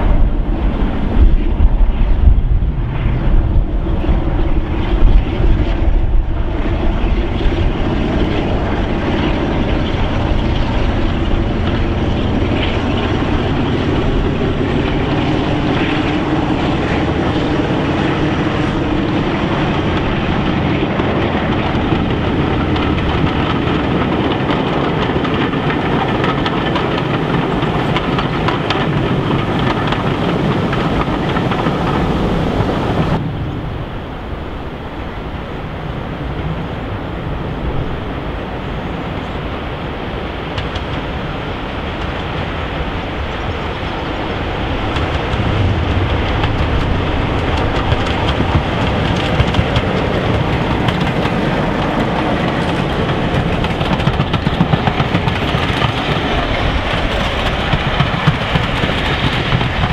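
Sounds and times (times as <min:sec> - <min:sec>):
diesel locomotives running under power: 0:00.0 - 0:59.9
wind buffeting microphone: 0:00.0 - 0:59.9.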